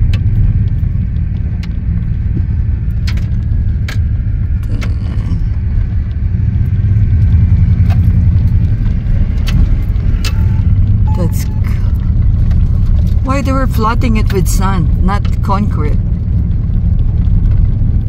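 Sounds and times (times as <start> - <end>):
tyres and engine rumbling: 0.0 - 18.0.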